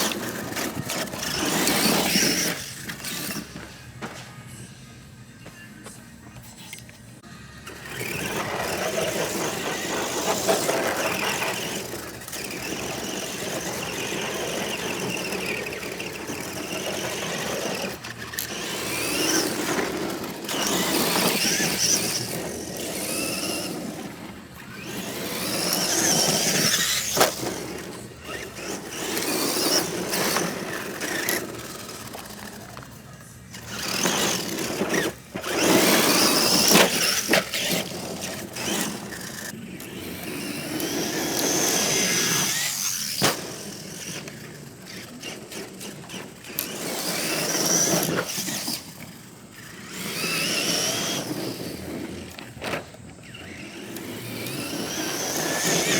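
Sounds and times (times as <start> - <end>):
engine revving: 0.0 - 3.6, 7.6 - 55.9.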